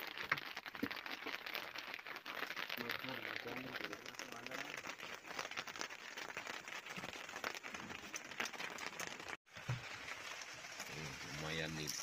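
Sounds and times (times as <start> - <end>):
rain pattering on a boat: 0.0 - 12.0.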